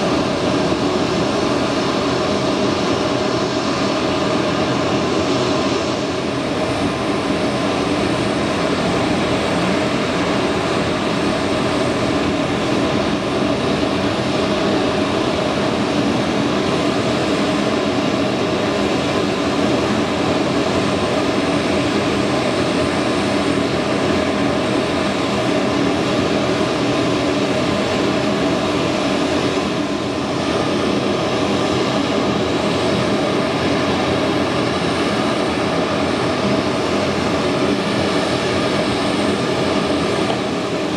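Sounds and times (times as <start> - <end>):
aircraft auxiliary power unit whine: 0.0 - 40.9.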